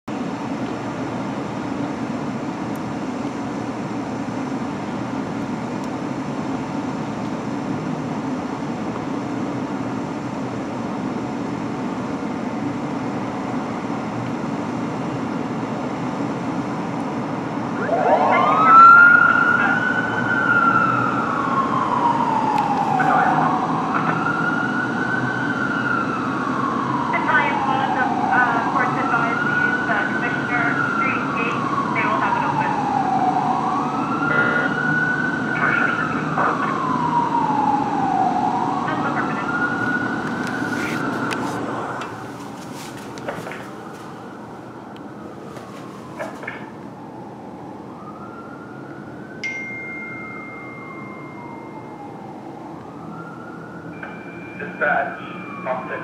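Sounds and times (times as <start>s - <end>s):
fire engine siren wailing: 0.2s - 56.0s.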